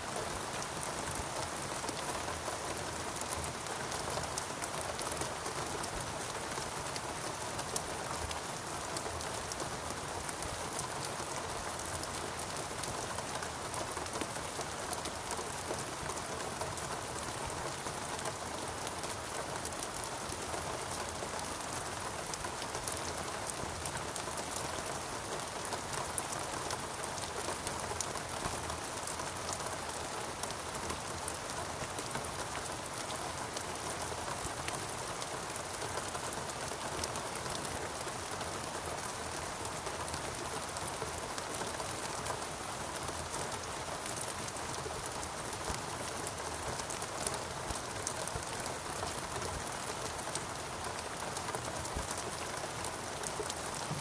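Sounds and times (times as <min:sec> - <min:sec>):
rain falling on foliage: 0:00.0 - 0:54.0.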